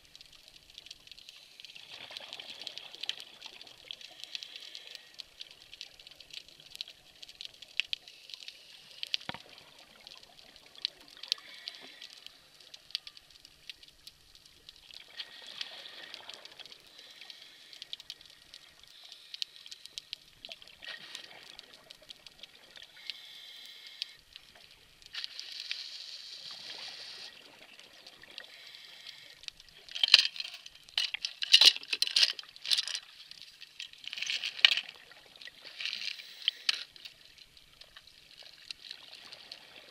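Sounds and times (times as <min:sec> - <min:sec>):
steady hiss: 0:00.0 - 0:03.3, 0:04.0 - 0:09.4, 0:11.2 - 0:27.6, 0:28.2 - 0:38.9
faint crackling clicks: 0:00.0 - 0:39.9.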